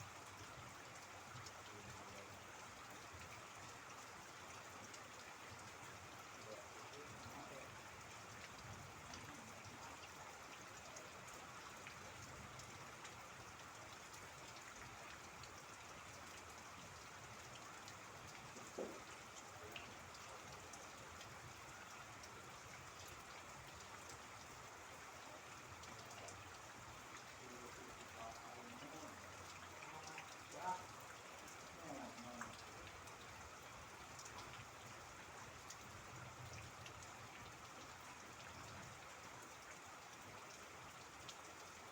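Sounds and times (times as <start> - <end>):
faint steady rainfall: 0.0 - 41.9.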